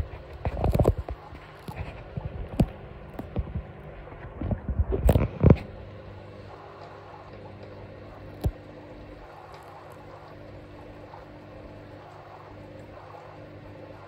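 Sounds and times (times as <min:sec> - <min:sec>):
aquarium equipment humming: 0:00.0 - 0:14.0.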